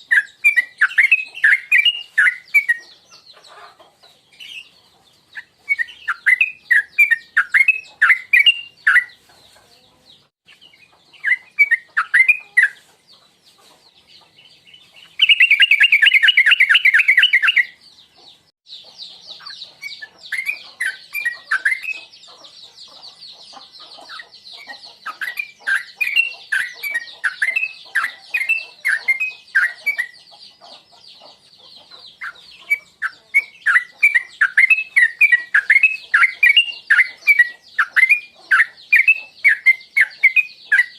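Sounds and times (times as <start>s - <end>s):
fast dense bird trill: 0.0s - 3.7s, 4.3s - 9.3s, 10.5s - 13.2s, 14.1s - 40.9s
bulbul singing: 0.0s - 13.3s, 13.9s - 40.9s.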